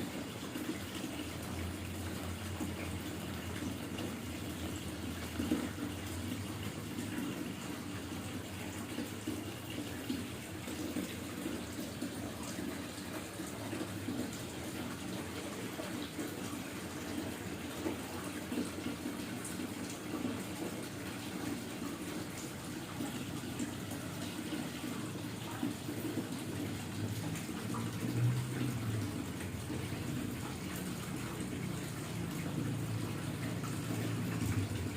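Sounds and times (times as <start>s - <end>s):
hot water pouring and trickling: 0.0s - 34.9s.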